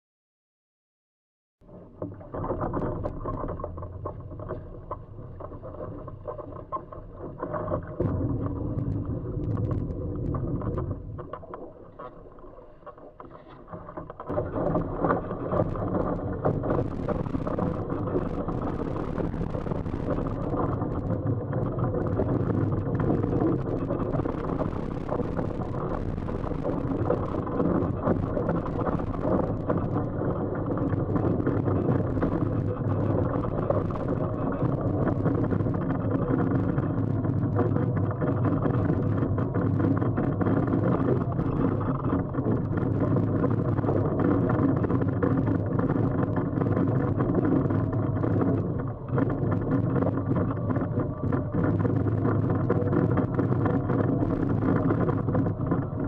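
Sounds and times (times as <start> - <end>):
faint steady hum: 1.7 - 56.0.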